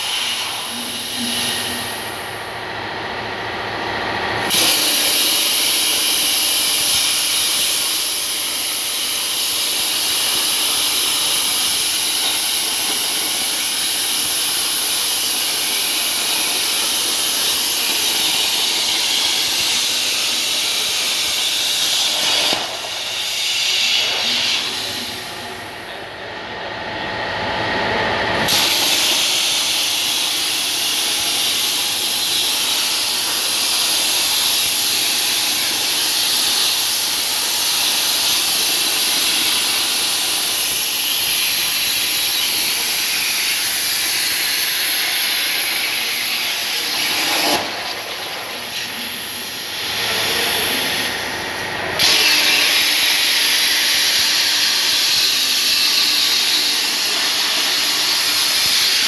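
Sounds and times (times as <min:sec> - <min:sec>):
plasma cutter torch hissing: 0:00.0 - 0:02.5, 0:04.4 - 0:25.9, 0:28.4 - 0:59.0.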